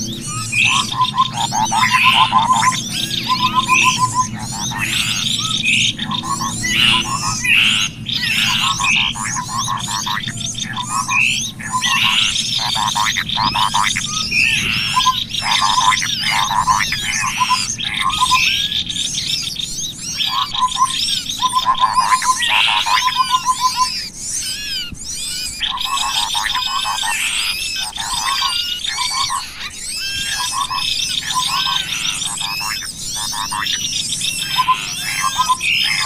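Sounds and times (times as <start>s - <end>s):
songbirds chirping and twittering: 0.0s - 36.0s.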